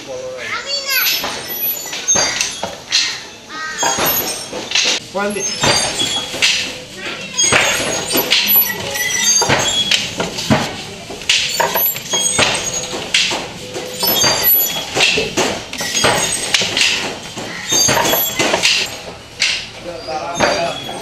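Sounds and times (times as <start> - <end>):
handloom wooden clacking: 1.0 - 3.2, 3.8 - 19.7.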